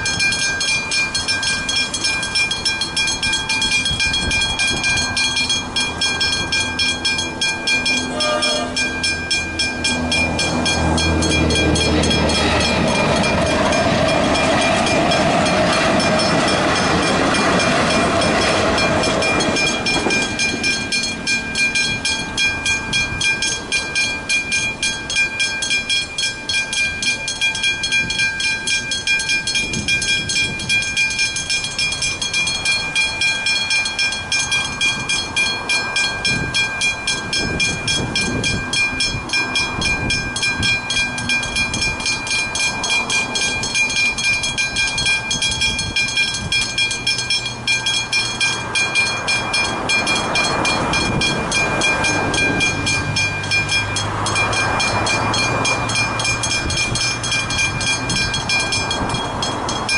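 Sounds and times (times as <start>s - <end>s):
level-crossing bells clanging: 0.0s - 59.9s.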